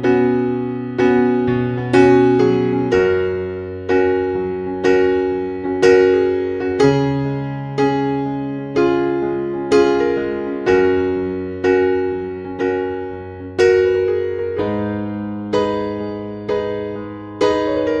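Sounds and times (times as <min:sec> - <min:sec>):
electric piano chords: 0:00.0 - 0:18.0.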